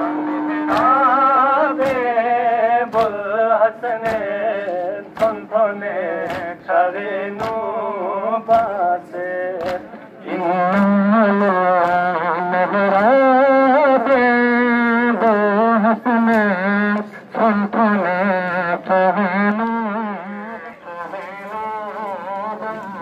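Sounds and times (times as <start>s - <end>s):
sharp rhythmic strikes: 0.0s - 20.0s
men chanting a lament: 0.0s - 23.0s.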